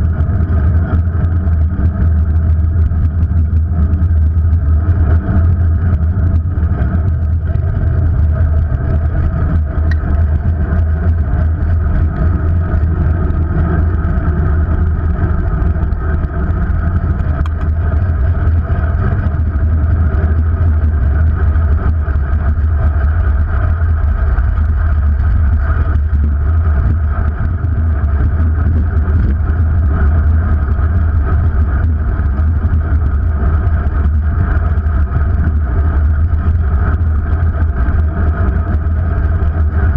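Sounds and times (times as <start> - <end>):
road noise: 0.0 - 39.9
wind rumble: 0.0 - 39.9.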